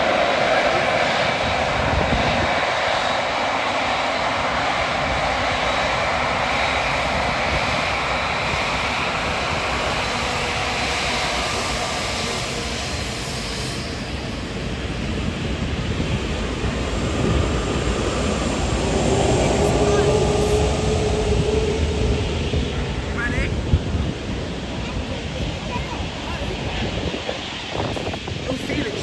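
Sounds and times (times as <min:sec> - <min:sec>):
jet airliner engines roaring: 0:00.0 - 0:29.0.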